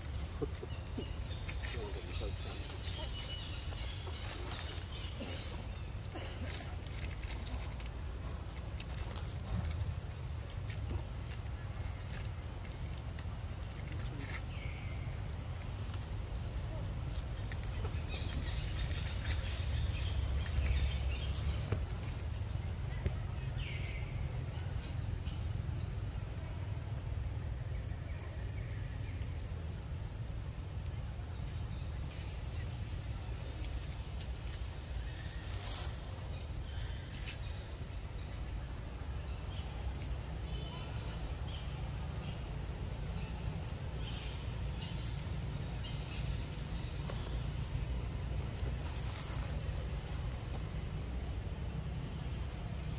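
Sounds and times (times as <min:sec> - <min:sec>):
insect chorus trilling: 0:00.0 - 0:52.9.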